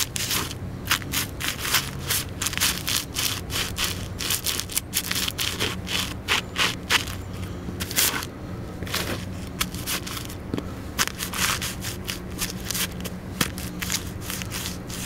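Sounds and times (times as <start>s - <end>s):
shoes scraping oatmeal on concrete: 0.0s - 10.4s, 11.0s - 15.0s.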